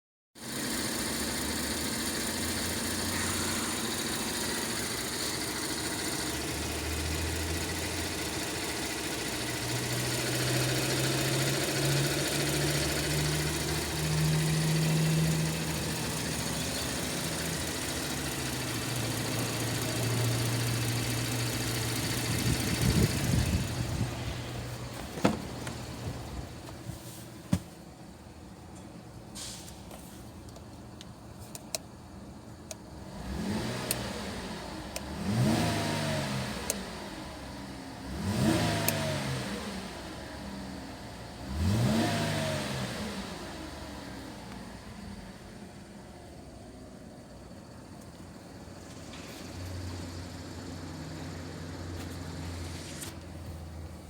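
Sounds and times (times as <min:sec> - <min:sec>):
car engine idling and revving: 0:00.4 - 0:54.0.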